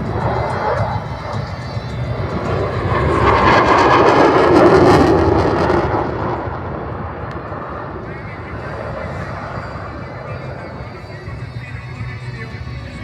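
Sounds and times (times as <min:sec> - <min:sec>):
aircraft passing by: 0:00.0 - 0:13.0.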